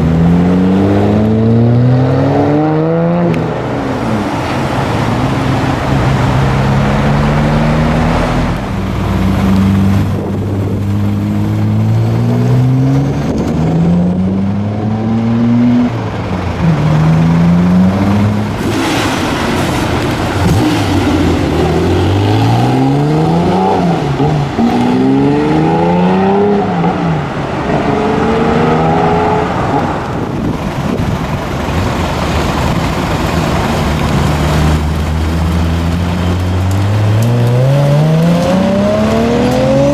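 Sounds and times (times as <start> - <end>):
sports cars accelerating hard: 0.0 - 30.4, 33.4 - 39.9.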